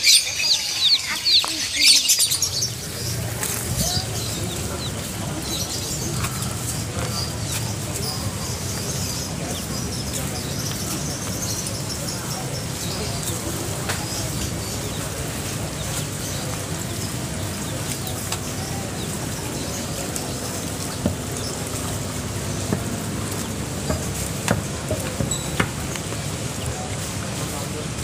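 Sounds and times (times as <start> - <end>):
faint background chatter: 0.0 - 28.0
water trickling into tanks: 0.0 - 28.0.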